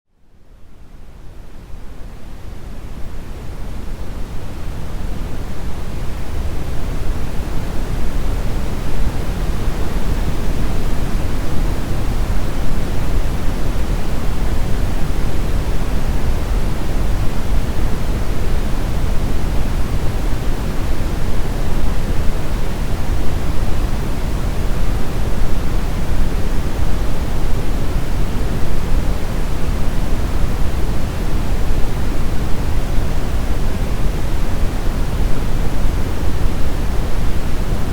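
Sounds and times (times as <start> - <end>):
brown noise rumbling hiss: 0.2 - 37.9.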